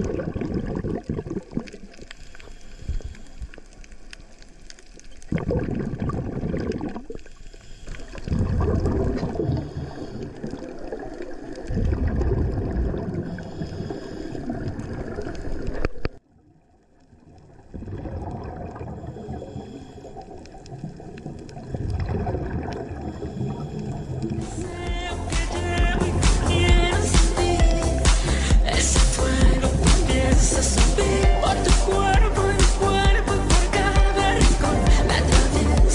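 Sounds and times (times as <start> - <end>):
underwater regulator bubbling: 0.0 - 16.2, 17.4 - 35.9.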